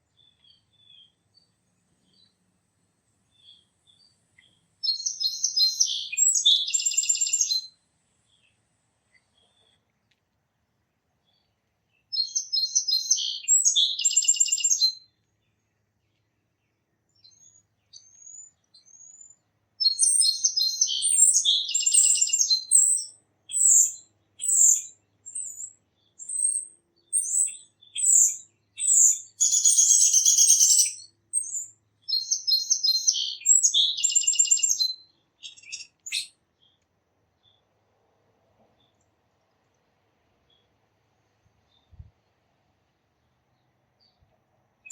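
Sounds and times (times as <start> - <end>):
songbird trilled song: 0.0 - 2.5, 3.2 - 10.2, 11.2 - 37.7, 43.4 - 44.9.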